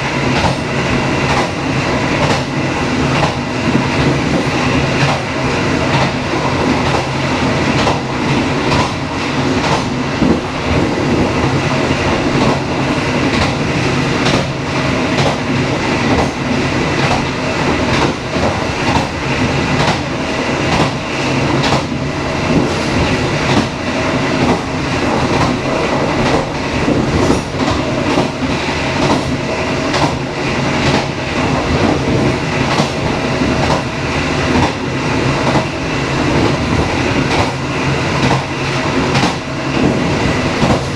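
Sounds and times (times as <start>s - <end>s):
train rumbling along track: 0.0s - 40.9s.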